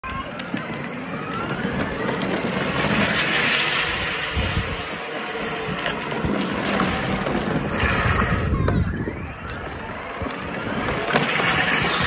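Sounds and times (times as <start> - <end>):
electric motors running: 0.0 - 12.0
wheels rolling over concrete: 0.0 - 12.0.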